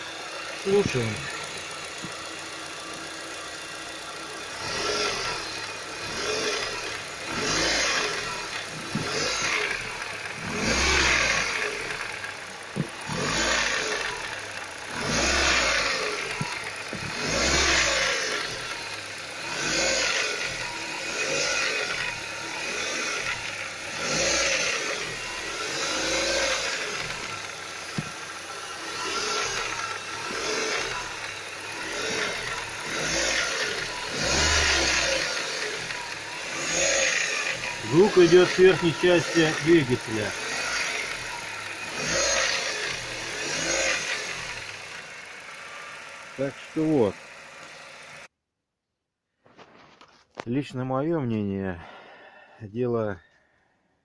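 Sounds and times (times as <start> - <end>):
car engine revving in blips: 3.6 - 48.3.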